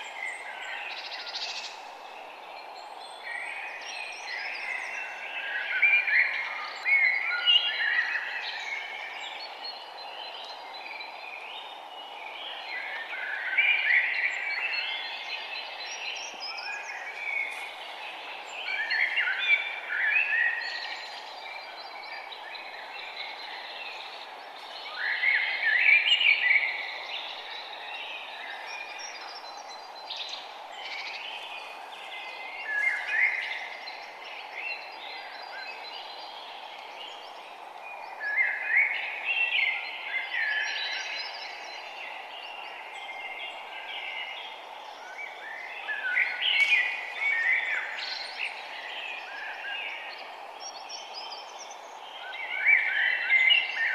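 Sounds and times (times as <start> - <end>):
songbirds chirping: 0.0 - 53.9
steady background hiss: 0.0 - 53.9.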